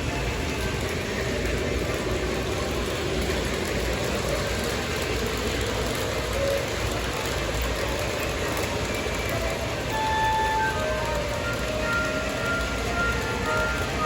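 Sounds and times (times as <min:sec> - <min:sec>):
model trains running on track: 0:00.0 - 0:14.0.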